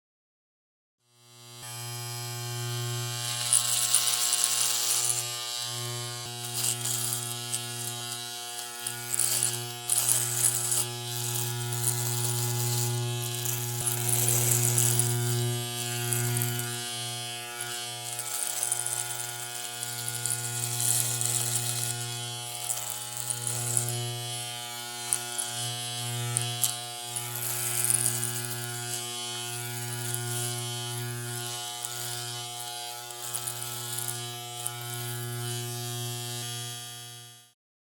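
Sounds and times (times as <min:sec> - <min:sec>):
electric shaver buzzing: 0:01.1 - 0:37.6.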